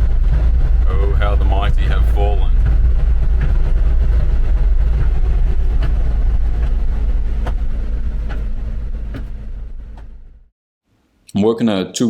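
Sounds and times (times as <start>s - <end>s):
engine and road rumble: 0.0s - 10.5s.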